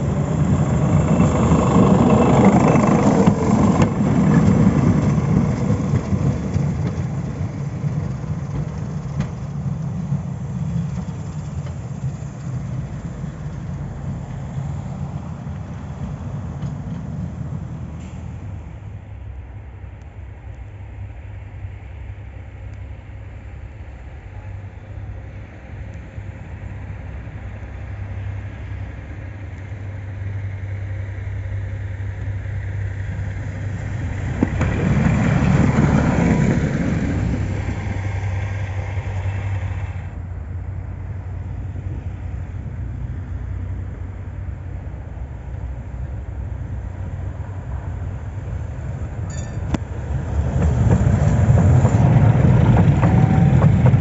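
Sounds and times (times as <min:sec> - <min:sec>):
low hum: 0:00.0 - 0:54.0
tram passing: 0:00.0 - 0:54.0.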